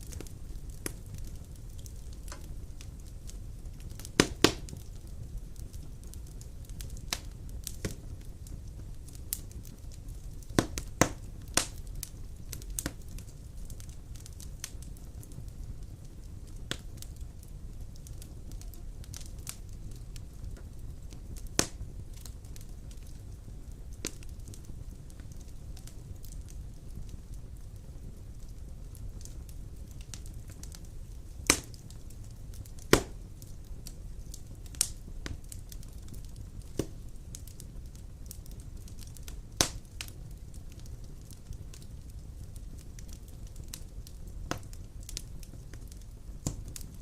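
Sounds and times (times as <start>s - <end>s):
fire crackles and pops: 0.0s - 47.0s
fire low rumble: 0.0s - 47.0s.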